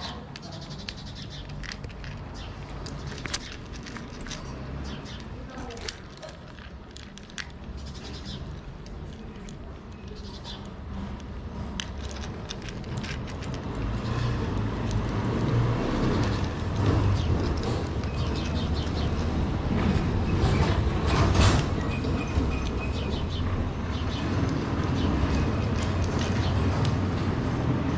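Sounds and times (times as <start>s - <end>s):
cats chewing dry kibble: 0.0s - 27.4s
low engine rumble: 0.0s - 27.9s.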